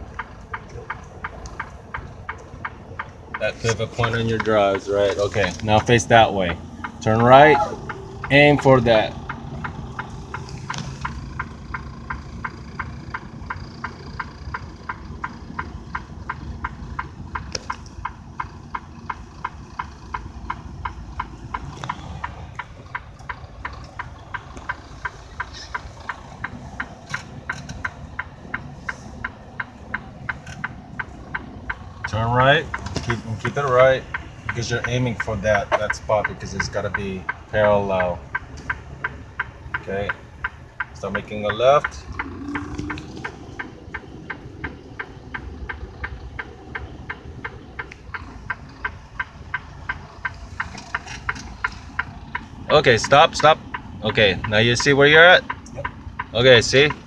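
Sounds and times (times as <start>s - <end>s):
truck engine running: 0.0s - 57.0s
turn signal clicking: 0.0s - 57.0s.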